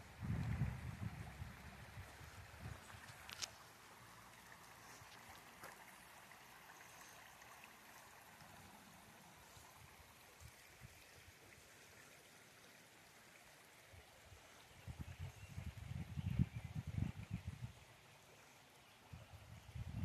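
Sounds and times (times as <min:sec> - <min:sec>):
brook flowing: 0:00.0 - 0:20.0.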